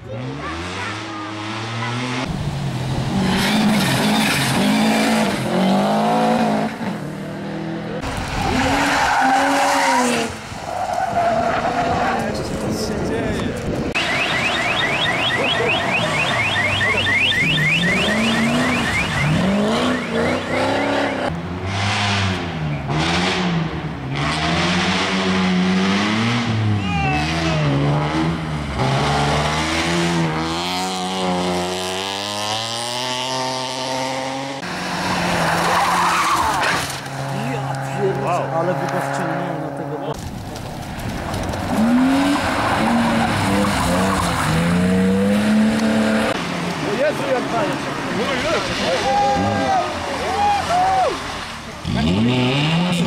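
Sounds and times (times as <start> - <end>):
rally car engines revving: 0.0 - 53.0.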